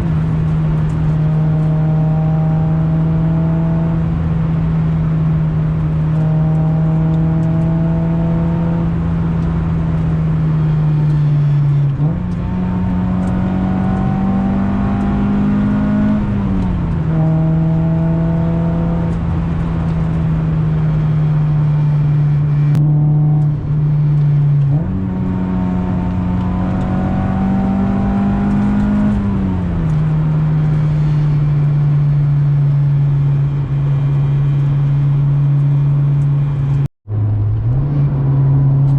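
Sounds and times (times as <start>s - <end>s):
car engine under load: 0.0s - 38.9s.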